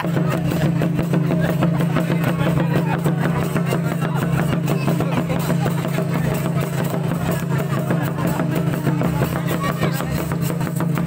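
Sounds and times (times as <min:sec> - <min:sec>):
voices: 0:00.0 - 0:11.0.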